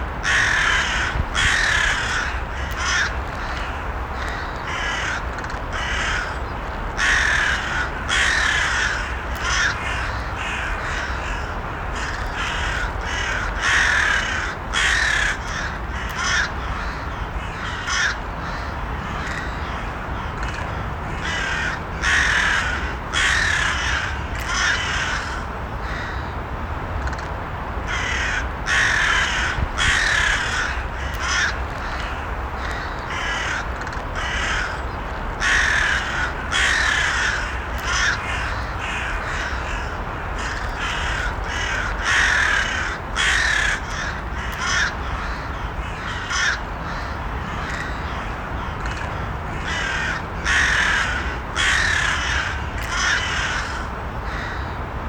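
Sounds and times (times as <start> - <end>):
low background noise: 0.0 - 55.0
crows cawing: 0.2 - 26.3, 27.9 - 54.8.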